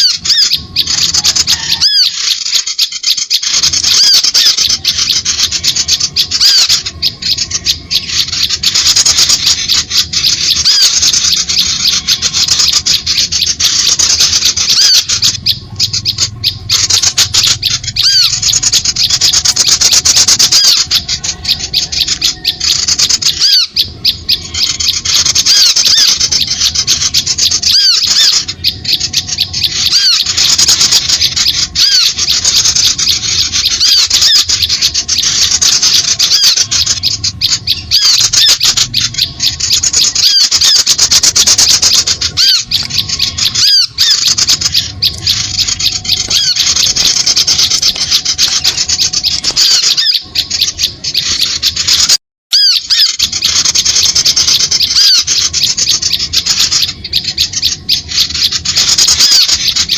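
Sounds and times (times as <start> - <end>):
small birds chirping rapidly: 0.0 - 59.9.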